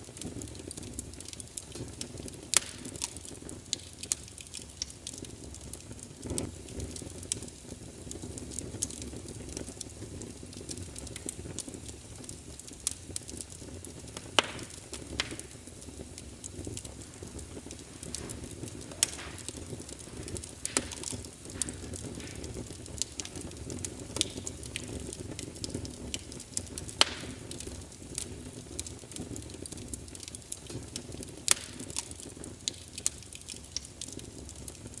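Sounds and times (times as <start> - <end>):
fire crackling in fireplace: 0.0 - 35.0.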